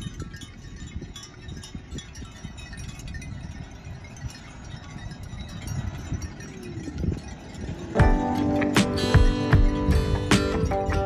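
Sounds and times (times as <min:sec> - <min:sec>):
small bells tinkling: 0:00.0 - 0:11.0.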